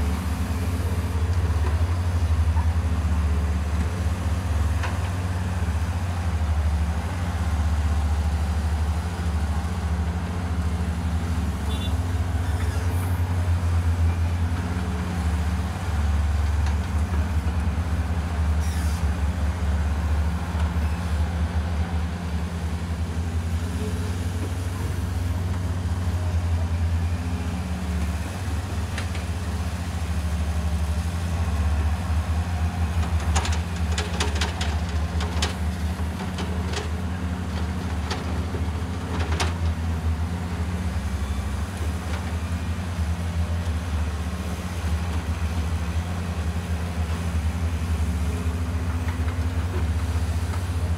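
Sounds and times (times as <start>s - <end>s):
heavy diesel engines droning: 0.0s - 50.9s.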